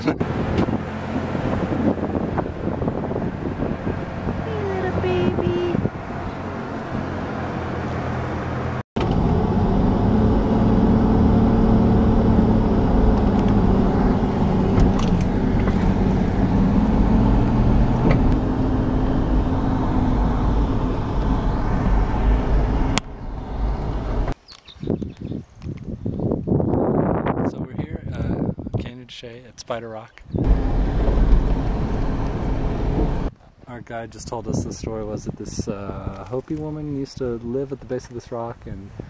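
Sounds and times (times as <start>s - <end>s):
truck engine and road noise: 0.0s - 27.2s, 30.1s - 39.0s.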